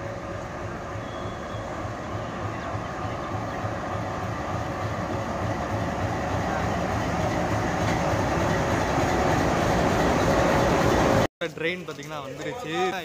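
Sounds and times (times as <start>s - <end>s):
diesel locomotive engine running: 0.0s - 11.3s.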